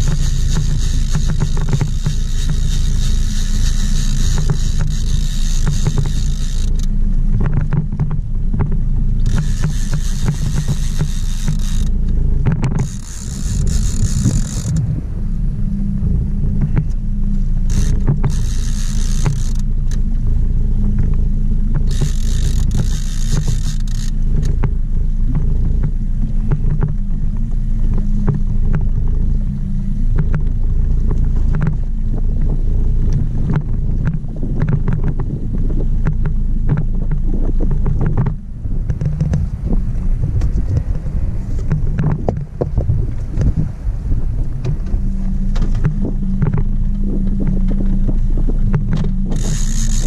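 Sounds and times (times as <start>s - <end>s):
light clicks and knocks: 0.0s - 14.9s, 16.6s - 20.2s, 20.8s - 29.2s, 30.1s - 39.6s, 44.6s - 50.0s
outboard motor running: 0.0s - 50.0s
wind on microphone: 0.0s - 50.0s.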